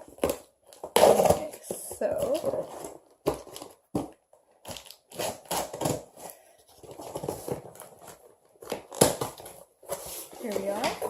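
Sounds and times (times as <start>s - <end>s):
packaging crinkling and crunching: 0.0s - 11.0s.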